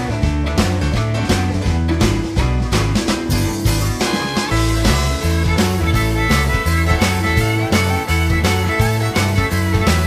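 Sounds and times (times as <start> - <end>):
background music with beat and bass: 0.0 - 10.0.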